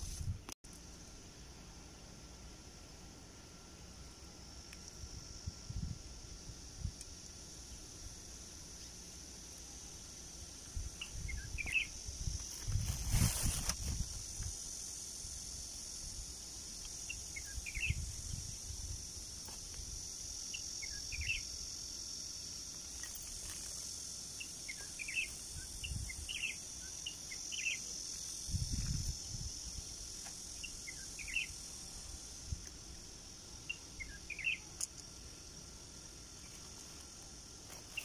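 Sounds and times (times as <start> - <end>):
high-pitched insect drone: 2.1 - 38.0.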